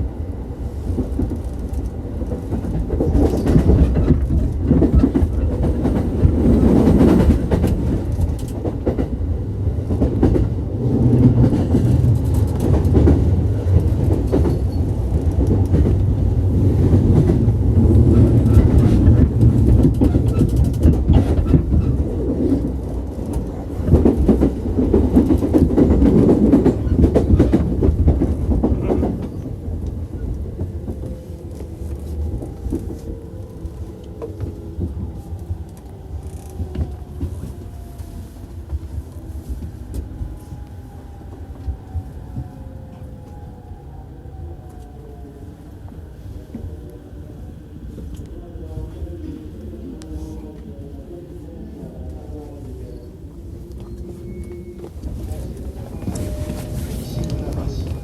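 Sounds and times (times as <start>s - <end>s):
electric train rumble: 0.0s - 58.0s.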